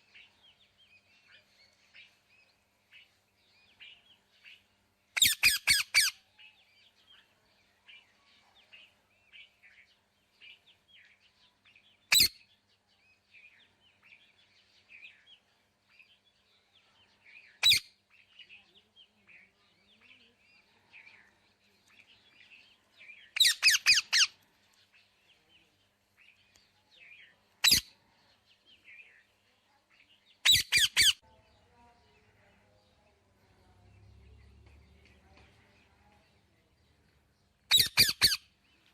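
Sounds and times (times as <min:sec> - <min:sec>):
faint bird chirping: 0:00.0 - 0:38.9.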